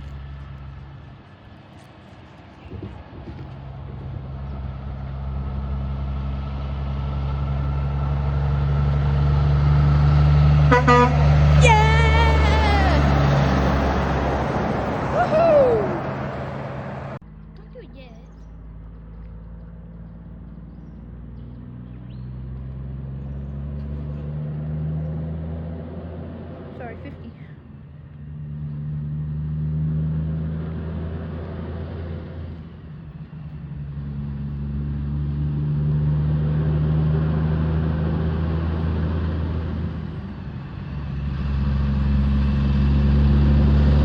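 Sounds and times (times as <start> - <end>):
truck diesel engine drone: 0.0 - 44.0.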